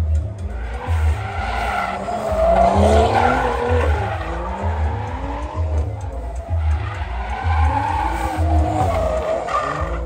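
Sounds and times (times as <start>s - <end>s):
car engine revving: 0.0s - 10.0s
music with bass beat: 0.0s - 10.0s.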